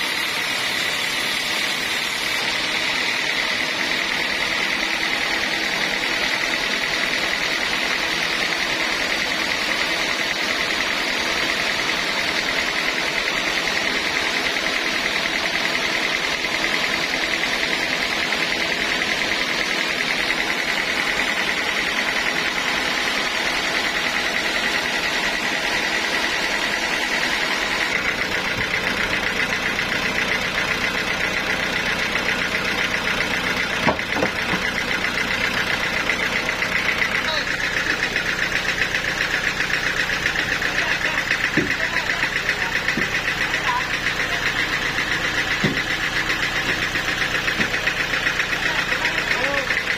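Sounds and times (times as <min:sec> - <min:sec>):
sawmill machinery running: 0:00.0 - 0:49.9.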